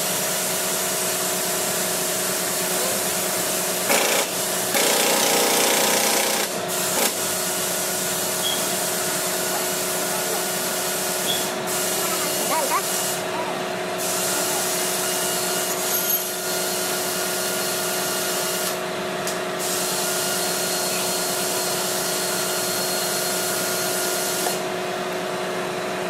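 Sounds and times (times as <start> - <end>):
machine humming and hissing: 0.0 - 26.0.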